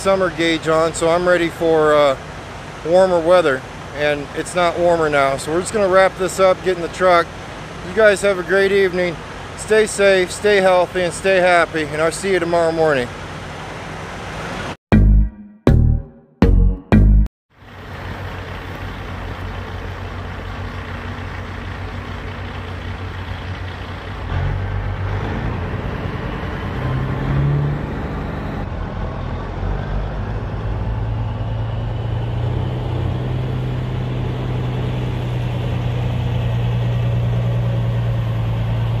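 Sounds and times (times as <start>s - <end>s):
diesel truck engine running: 0.0s - 14.8s, 17.6s - 39.0s.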